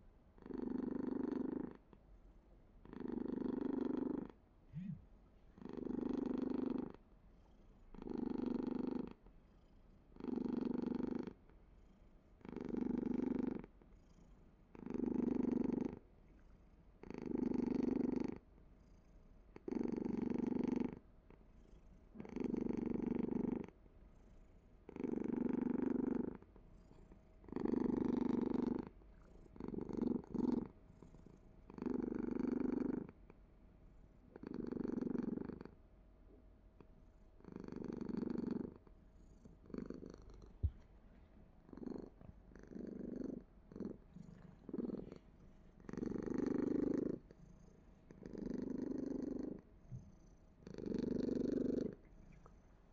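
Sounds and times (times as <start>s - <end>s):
cat purring: 0.3s - 2.1s, 2.7s - 33.5s, 34.3s - 52.9s.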